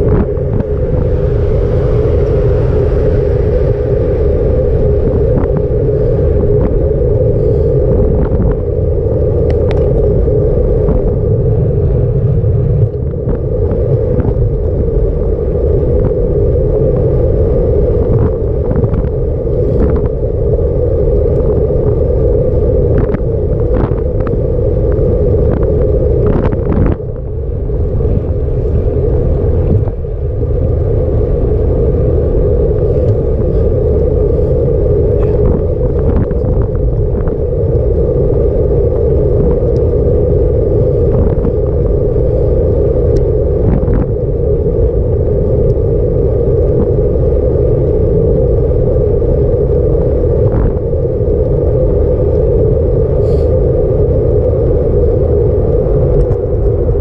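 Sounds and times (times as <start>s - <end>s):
road rumble: 0.0s - 57.0s
wind rush: 0.0s - 57.0s.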